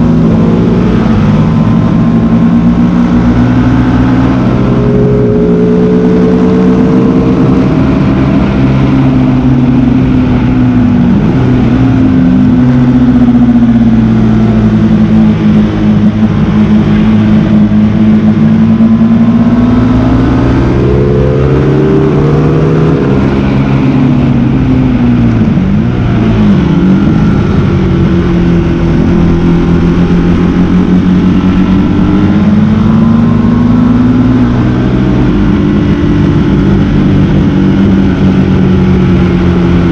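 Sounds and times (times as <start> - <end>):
motorcycle engine revving at speed: 0.0 - 39.9.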